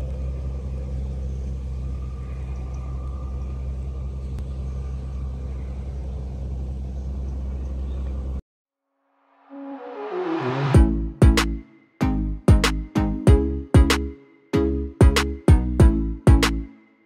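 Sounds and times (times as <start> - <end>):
steady low drone: 0.0 - 8.4, 10.5 - 16.7.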